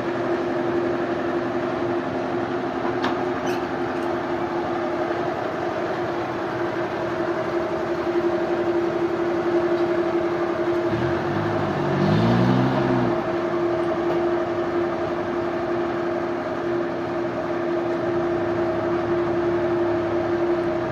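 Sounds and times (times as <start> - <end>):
low engine-like drone: 0.0 - 20.9
sawmill machinery humming: 0.0 - 20.9.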